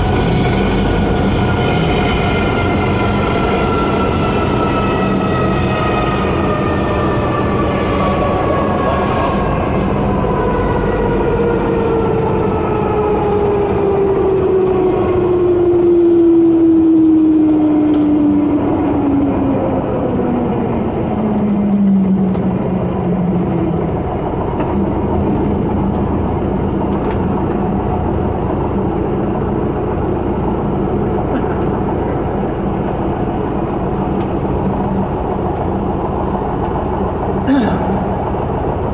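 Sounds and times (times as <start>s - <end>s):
aircraft engine idling: 0.0s - 38.9s
tyres and airflow rumble: 0.0s - 38.9s.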